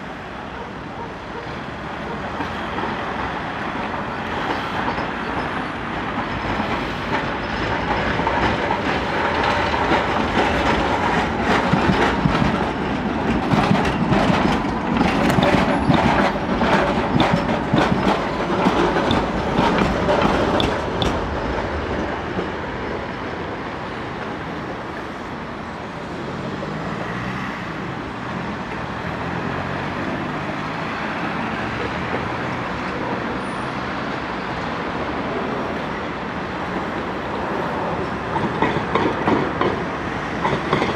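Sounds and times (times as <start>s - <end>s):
street rumble: 0.0s - 40.9s
tram wheels clattering over rails: 0.0s - 40.9s.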